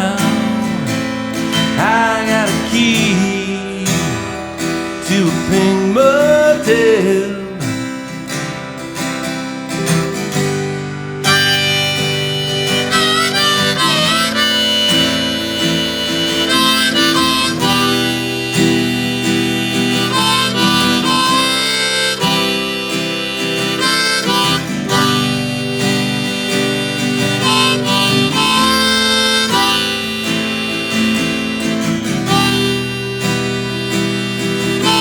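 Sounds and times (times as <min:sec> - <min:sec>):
acoustic guitar: 0:00.0 - 0:35.0
harmonica solo: 0:00.0 - 0:35.0.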